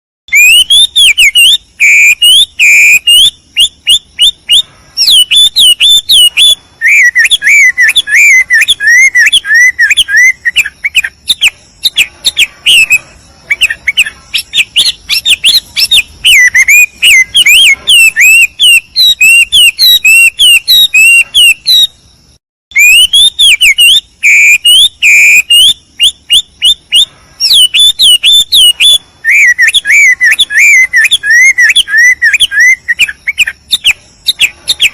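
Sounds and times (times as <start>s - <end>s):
songbird singing: 0.3s - 34.9s.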